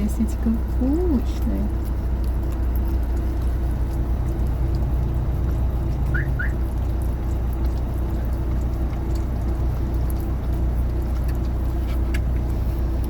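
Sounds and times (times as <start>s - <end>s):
dog licking and smacking: 0.0s - 13.0s
low rumble: 1.7s - 13.0s.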